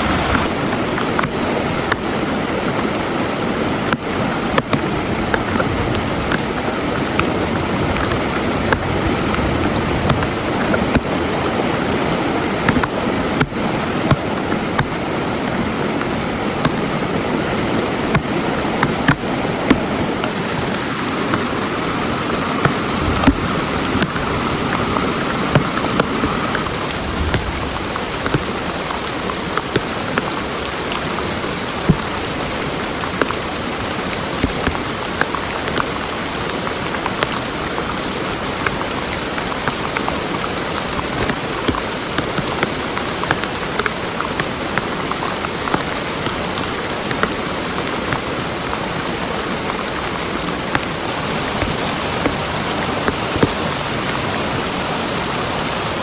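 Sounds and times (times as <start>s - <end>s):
heavy rain falling: 0.0s - 56.0s
raindrops ticking on a surface: 0.1s - 56.0s.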